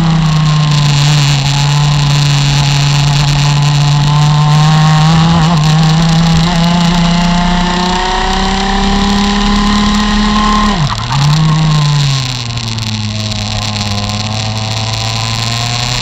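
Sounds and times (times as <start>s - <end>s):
kart engine revving: 0.0s - 16.0s.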